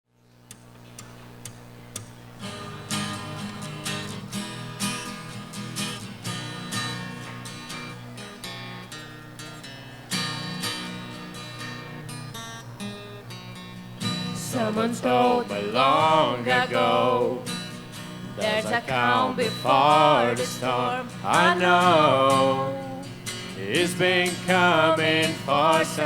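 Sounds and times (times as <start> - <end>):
acoustic guitar strumming: 0.4 - 26.0.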